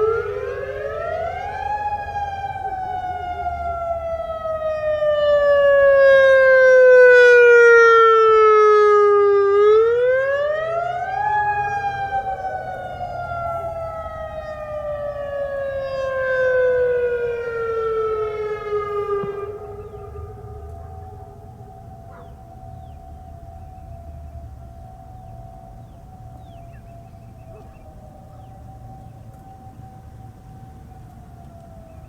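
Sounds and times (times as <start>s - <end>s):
warning siren: 0.0s - 32.0s.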